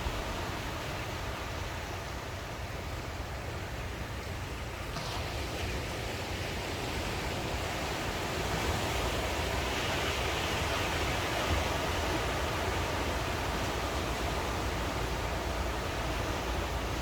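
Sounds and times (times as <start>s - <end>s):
sea surf washing ashore: 0.0s - 17.0s.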